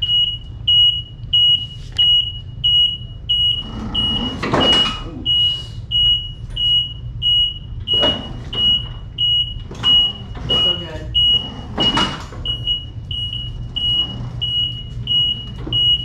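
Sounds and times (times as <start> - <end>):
reverse warning beeps: 0.0 - 16.0
mower rumbling: 3.1 - 16.0.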